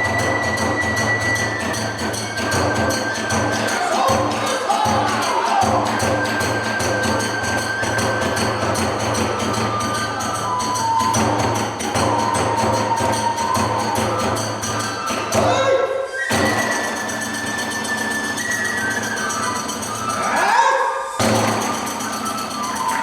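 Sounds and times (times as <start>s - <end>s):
taiko drum beats: 0.0s - 18.5s, 21.2s - 23.0s
bamboo flute melody: 0.0s - 23.0s
hand cymbal beats: 0.0s - 23.0s.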